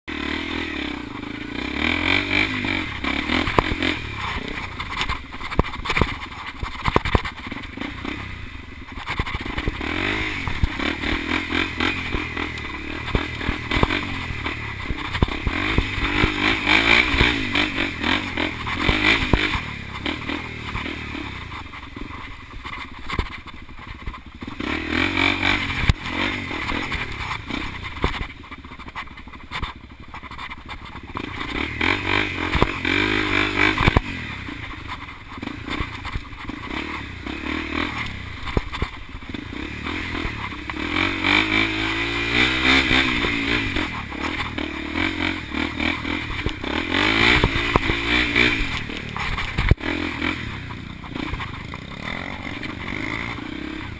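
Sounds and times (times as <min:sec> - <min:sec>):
dirt bike engine revving: 0:00.1 - 0:28.8, 0:29.6 - 0:53.9
bike knocks and rattles: 0:01.1 - 0:53.9.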